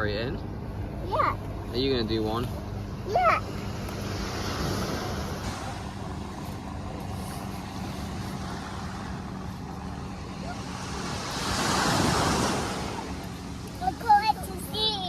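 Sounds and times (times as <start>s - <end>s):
sea surf: 1.0s - 15.0s.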